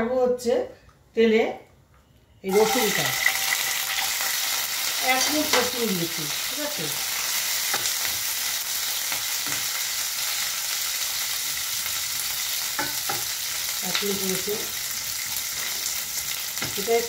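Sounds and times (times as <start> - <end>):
garlic sizzling in oil: 2.5 - 17.0.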